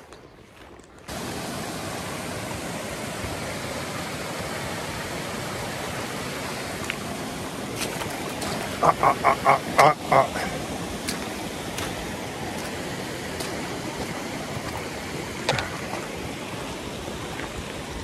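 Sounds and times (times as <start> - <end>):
stream rushing over rocks: 1.1 - 18.0.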